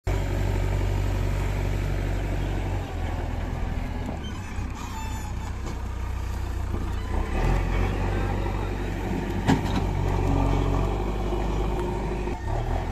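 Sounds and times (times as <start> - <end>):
backhoe digging earth: 0.1 - 12.9
diesel engine running under load: 0.1 - 12.9.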